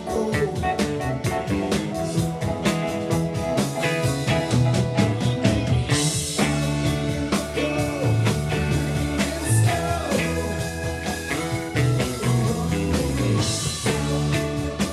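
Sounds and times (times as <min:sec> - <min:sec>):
rock band playing: 0:00.0 - 0:14.9.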